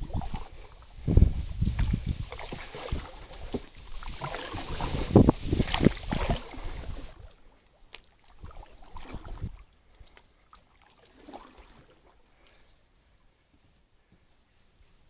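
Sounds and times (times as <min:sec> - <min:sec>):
rustling and splashing in reeds: 0:00.0 - 0:12.2.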